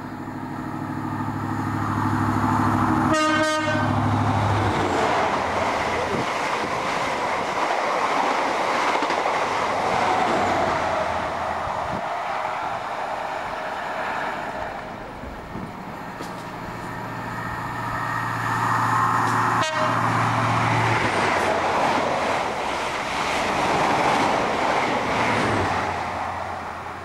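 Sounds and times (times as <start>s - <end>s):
train diesel engine running: 0.0s - 27.0s
train rushing past: 0.0s - 27.0s.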